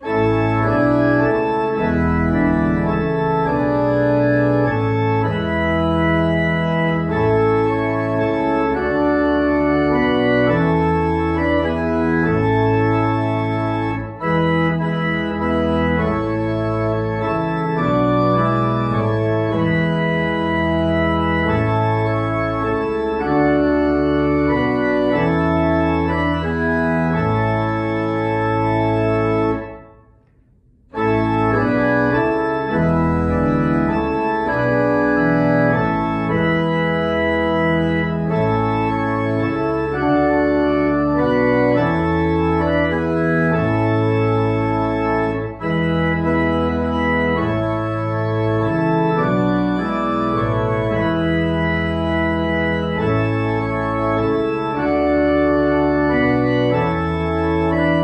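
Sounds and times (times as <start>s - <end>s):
church organ playing hymn: 0.0s - 58.0s.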